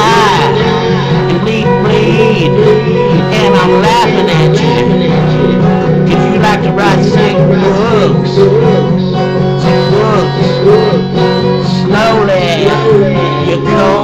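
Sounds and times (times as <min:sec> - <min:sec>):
guitar music: 0:00.0 - 0:14.0
man singing: 0:00.0 - 0:14.0.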